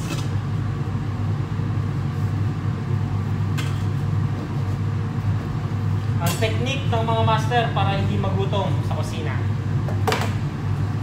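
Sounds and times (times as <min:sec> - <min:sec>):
extractor fan humming: 0:00.0 - 0:11.0.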